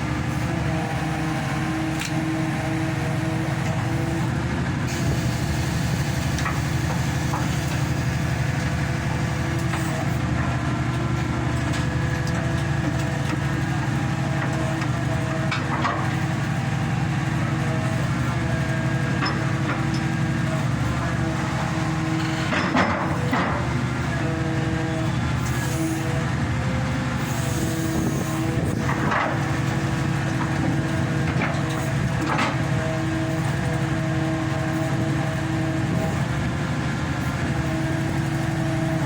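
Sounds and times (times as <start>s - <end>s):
hydraulic pile driver engine running: 0.0s - 39.0s.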